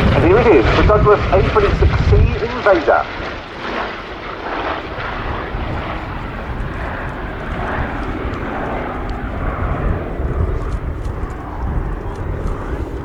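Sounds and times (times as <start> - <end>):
aircraft radial engines droning: 0.0 - 13.0.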